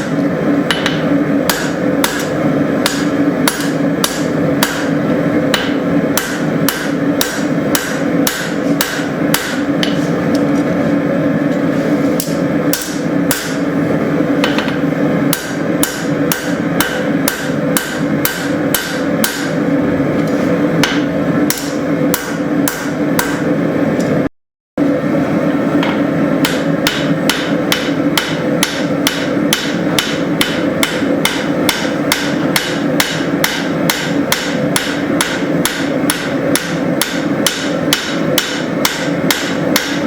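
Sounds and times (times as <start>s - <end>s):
hammer striking steel on anvil: 0.0s - 10.0s, 12.2s - 13.7s, 14.4s - 19.6s, 20.8s - 23.5s, 25.8s - 40.0s
steady hum: 0.0s - 40.0s.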